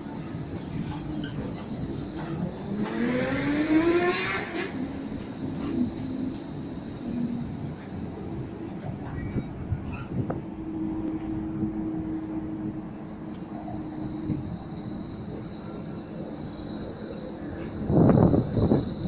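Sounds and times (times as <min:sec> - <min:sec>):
tram wheels rumbling on rails: 0:00.0 - 0:19.0
high wheel squeal: 0:00.3 - 0:19.0.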